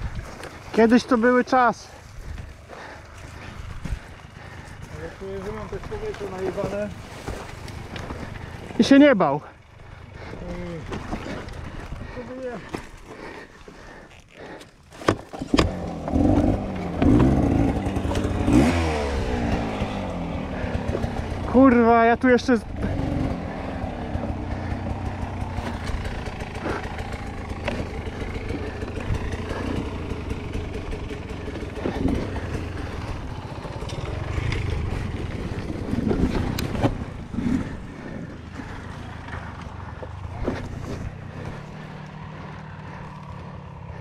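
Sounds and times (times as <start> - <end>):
dirt bike engine idling: 0.0 - 44.0.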